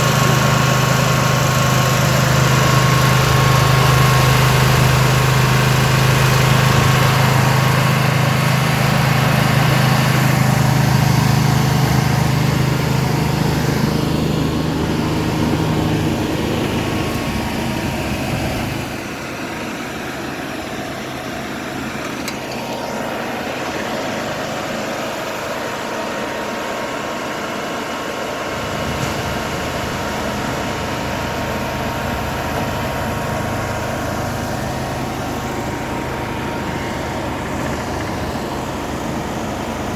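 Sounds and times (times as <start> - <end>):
low drone: 0.0 - 27.3, 28.2 - 39.9
machinery engine running: 0.0 - 39.9.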